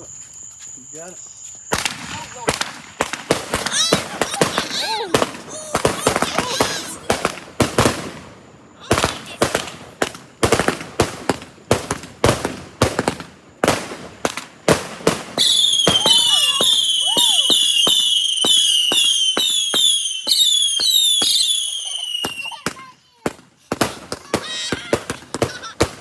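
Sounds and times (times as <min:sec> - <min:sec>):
firework pops: 0:01.7 - 0:08.3, 0:08.9 - 0:21.5, 0:22.2 - 0:26.0
firework bangs: 0:01.7 - 0:26.0
firework whistling: 0:01.7 - 0:26.0.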